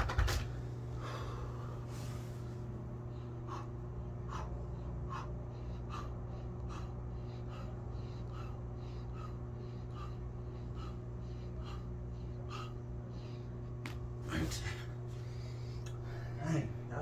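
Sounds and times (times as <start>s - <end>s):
steady low hum: 0.0s - 17.0s
man breathing hard: 0.7s - 16.9s.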